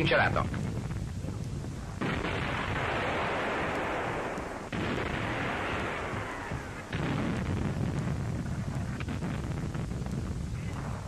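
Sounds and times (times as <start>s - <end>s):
explosions: 0.2s - 11.0s.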